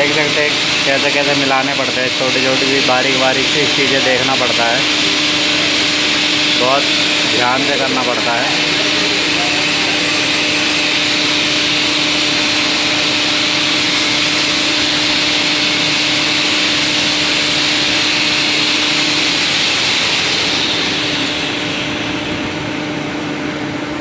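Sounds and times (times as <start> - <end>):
machinery hum: 0.0 - 24.0
workshop machinery hiss: 0.0 - 24.0.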